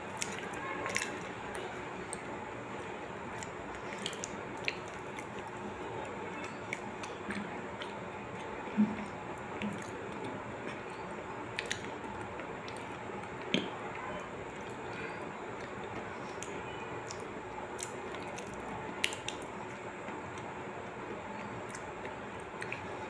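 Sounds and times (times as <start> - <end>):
person chewing food: 0.1 - 13.8, 14.5 - 20.5, 21.3 - 23.0.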